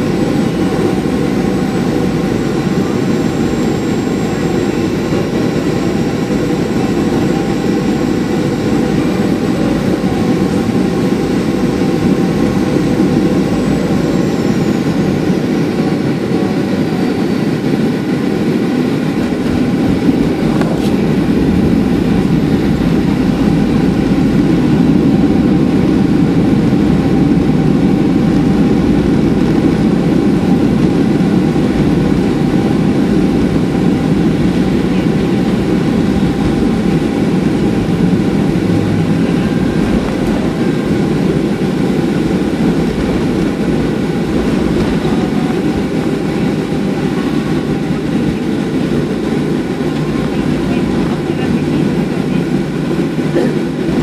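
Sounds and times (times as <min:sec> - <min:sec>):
jet engines roaring: 0:00.0 - 0:54.0
wheels rumbling on runway: 0:00.0 - 0:54.0.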